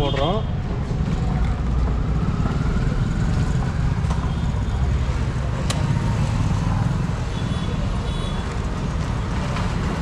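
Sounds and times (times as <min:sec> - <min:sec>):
low rumble of street traffic: 0:00.0 - 0:10.0.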